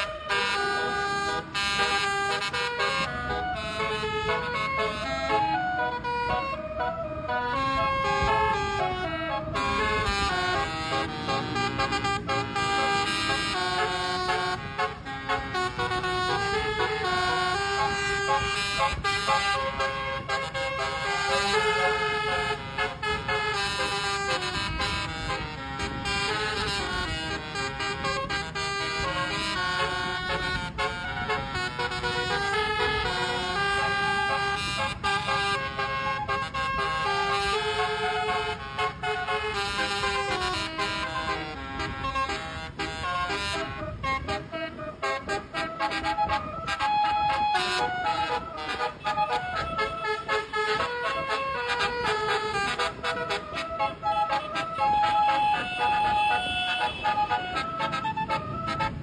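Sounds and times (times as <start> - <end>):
musical horn playing a melody: 0.0 - 59.0.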